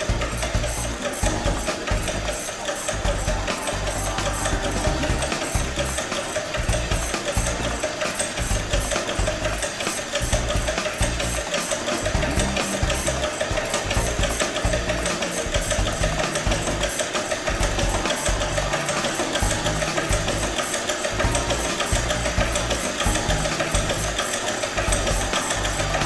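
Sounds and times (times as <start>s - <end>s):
background music with bass line: 0.0s - 26.0s
fast mechanical rattle: 0.0s - 26.0s.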